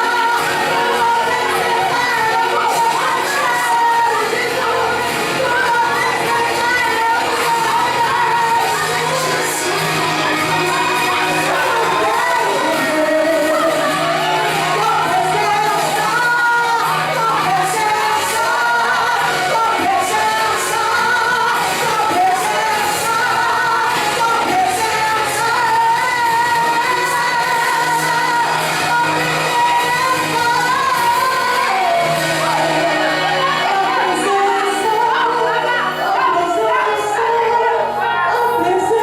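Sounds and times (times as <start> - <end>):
worship singing: 0.0 - 39.0.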